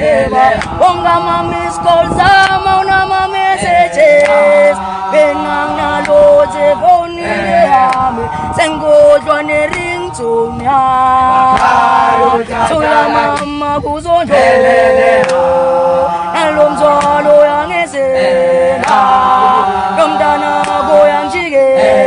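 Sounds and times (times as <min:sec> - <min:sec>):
group singing unaccompanied: 0:00.0 - 0:22.0.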